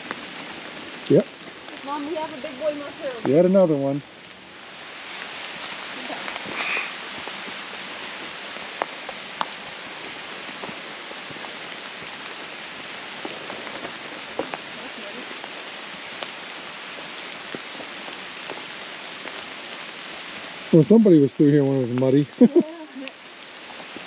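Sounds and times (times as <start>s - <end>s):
rain falling in a forest: 0.0s - 24.0s.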